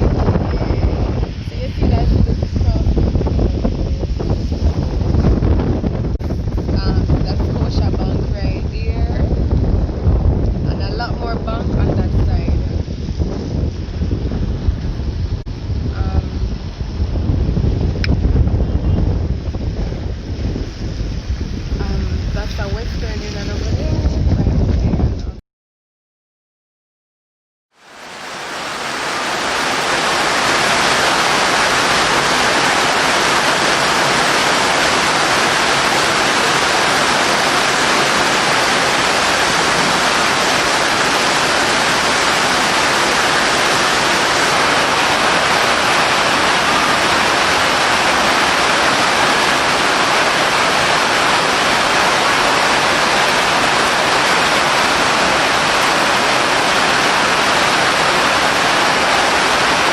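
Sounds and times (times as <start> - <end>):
heavy rain hiss: 0.0 - 24.2, 27.8 - 59.9.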